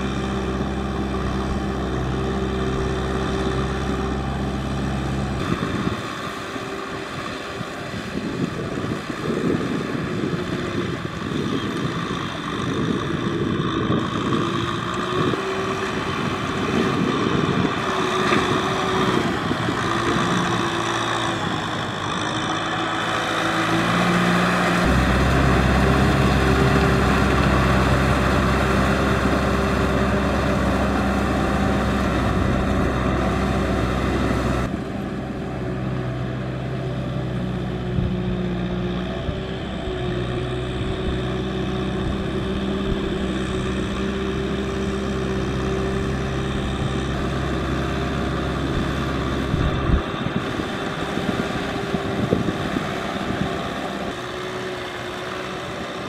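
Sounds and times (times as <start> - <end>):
deep engine rumble: 0.0 - 56.0
tractor diesel engine under load: 0.0 - 56.0.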